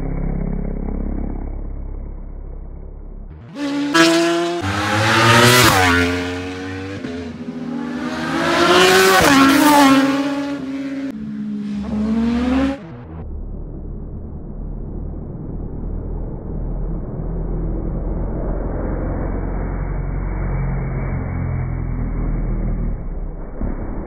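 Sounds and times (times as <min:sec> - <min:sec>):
racing motorcycles passing: 0:03.4 - 0:23.2.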